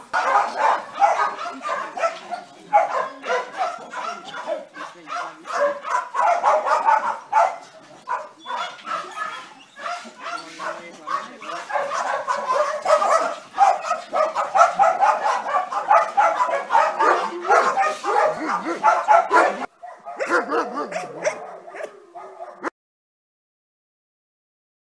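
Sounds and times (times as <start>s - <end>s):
dogs barking: 0.0s - 22.7s.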